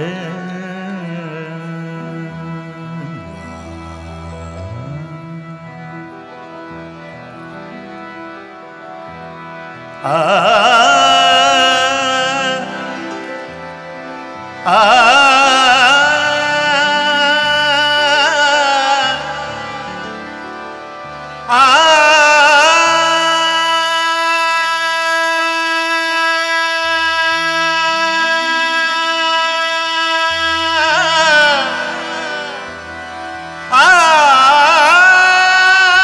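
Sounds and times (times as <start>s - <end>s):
man singing ornamented phrases: 0.0s - 6.3s, 10.0s - 13.6s, 14.6s - 36.0s
harmonium chords: 0.0s - 36.0s.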